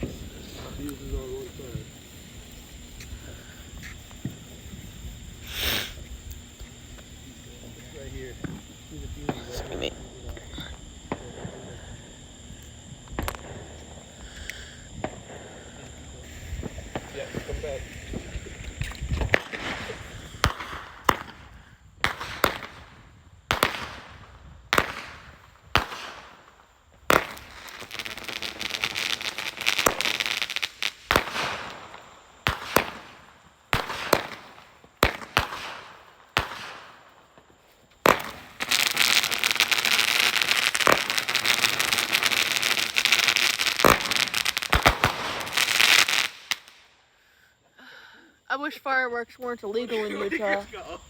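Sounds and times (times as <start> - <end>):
firework bangs: 0.0 - 47.0
firework crackling: 0.0 - 47.2.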